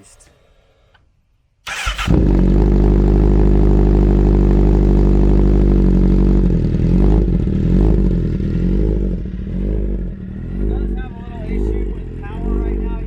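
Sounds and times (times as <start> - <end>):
motorcycle engine idling loudly: 2.0 - 13.0.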